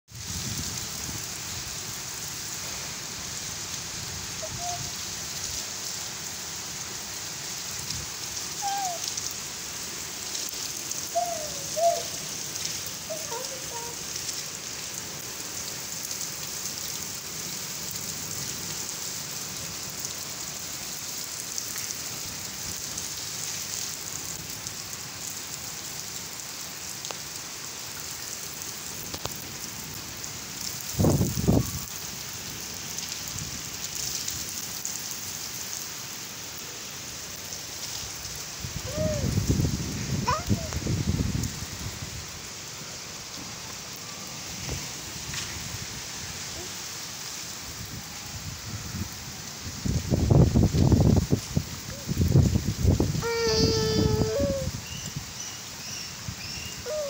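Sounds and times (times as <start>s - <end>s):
rain on concrete roof: 0.1s - 57.0s.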